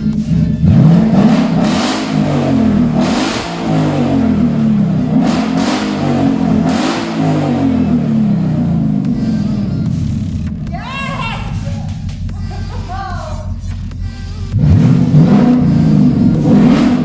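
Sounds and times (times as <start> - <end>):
car engine revving: 0.0 - 10.7, 11.4 - 17.0.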